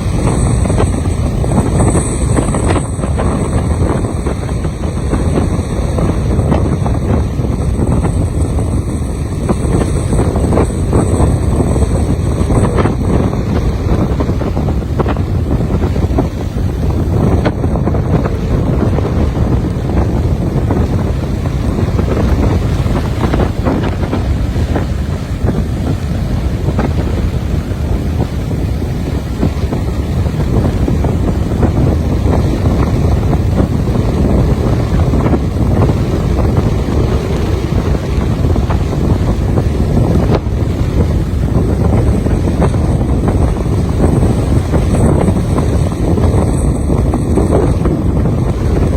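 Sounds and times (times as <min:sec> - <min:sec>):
waves breaking on beach: 0:00.0 - 0:48.9
wind buffeting microphone: 0:00.0 - 0:48.9.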